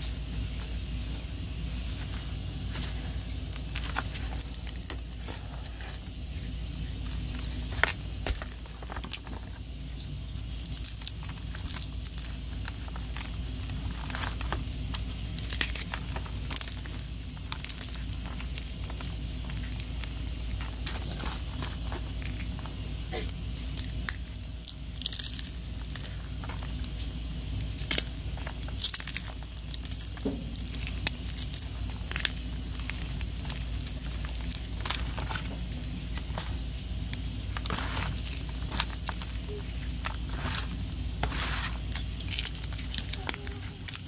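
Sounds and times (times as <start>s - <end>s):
chalk crackling and crunching: 0.0s - 44.0s.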